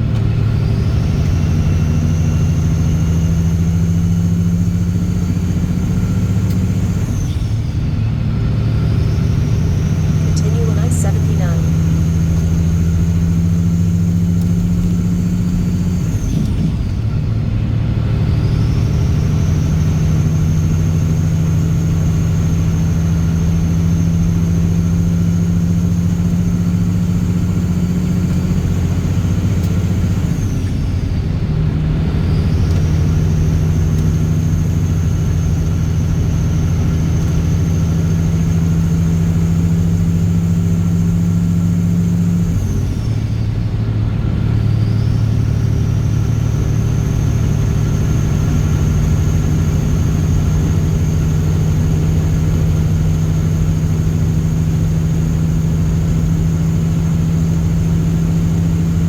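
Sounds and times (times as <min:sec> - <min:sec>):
diesel truck engine drone: 0:00.0 - 0:59.0
turbo whine: 0:00.0 - 0:59.0.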